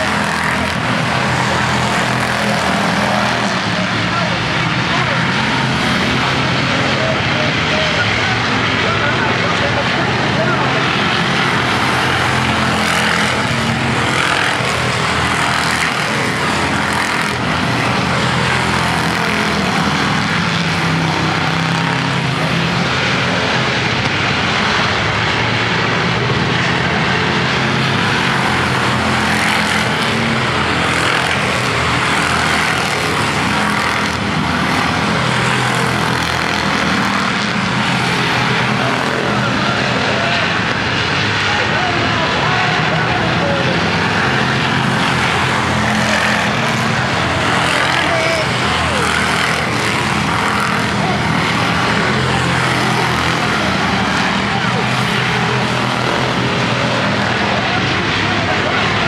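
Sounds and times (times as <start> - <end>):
race car engines roaring: 0.0 - 59.0.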